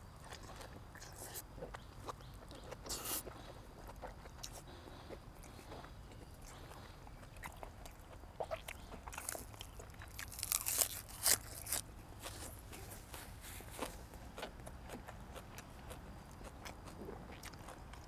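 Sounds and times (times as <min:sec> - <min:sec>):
person chewing crunchy food: 0:00.0 - 0:18.0.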